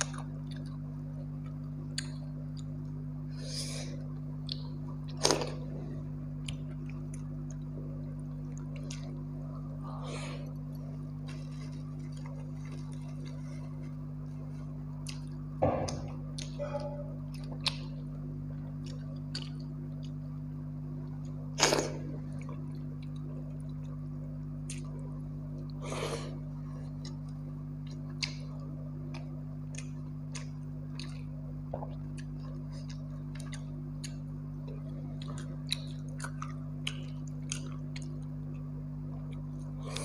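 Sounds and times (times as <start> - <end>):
chewing: 0.0 - 20.4, 21.0 - 40.0
low electrical hum: 0.0 - 40.0.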